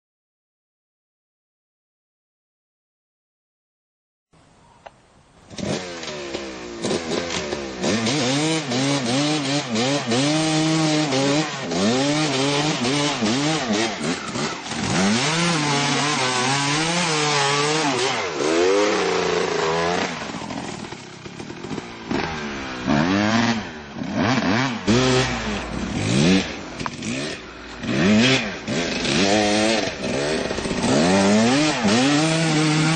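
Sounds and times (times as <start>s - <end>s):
motocross engine revving: 5.5s - 32.9s.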